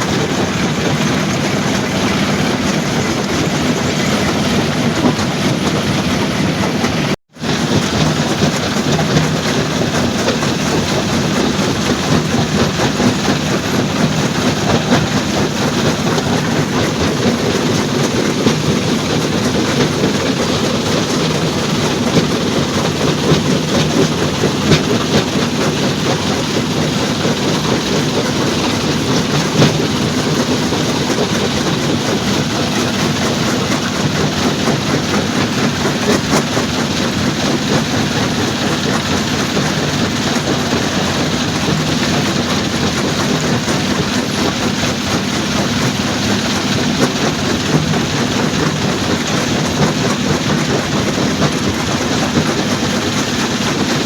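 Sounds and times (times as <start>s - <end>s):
stone crusher machinery running: 0.0s - 54.0s.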